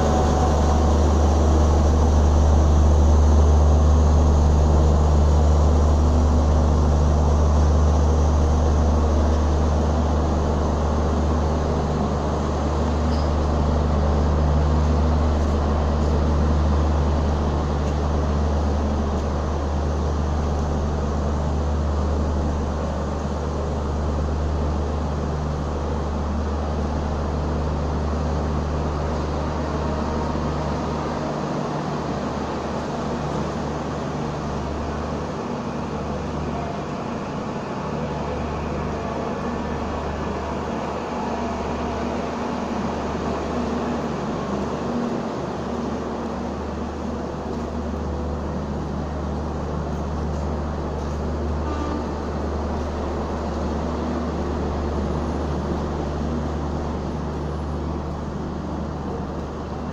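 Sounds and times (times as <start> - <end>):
train coaches humming and rumbling: 0.0 - 59.9.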